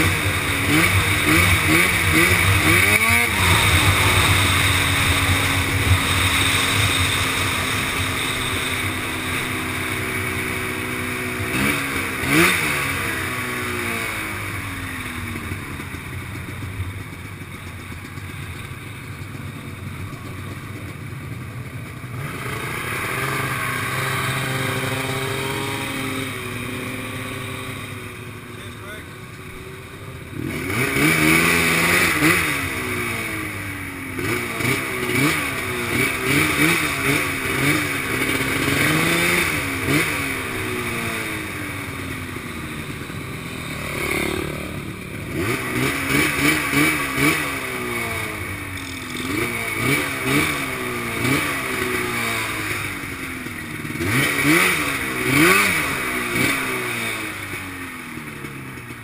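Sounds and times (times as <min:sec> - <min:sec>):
quad engine throttle blips: 0:00.0 - 0:59.0.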